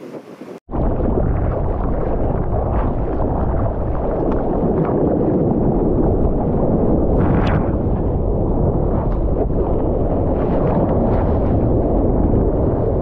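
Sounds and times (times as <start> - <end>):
water rushing against surfboard: 0.0 - 13.0
deep rumble: 0.7 - 13.0.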